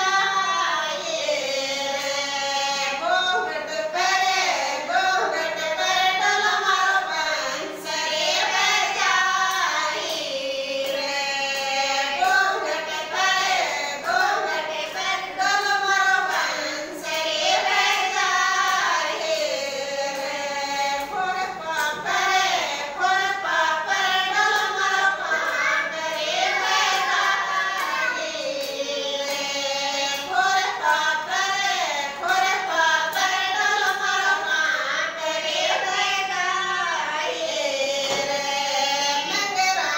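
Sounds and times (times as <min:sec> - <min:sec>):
women singing together: 0:00.0 - 0:39.9.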